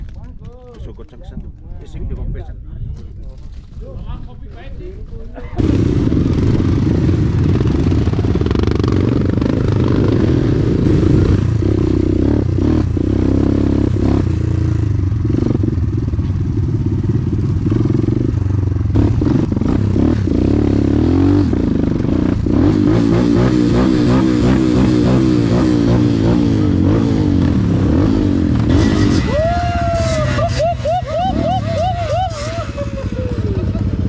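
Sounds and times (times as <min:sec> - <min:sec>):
motorcycle engine running: 0:05.6 - 0:34.0.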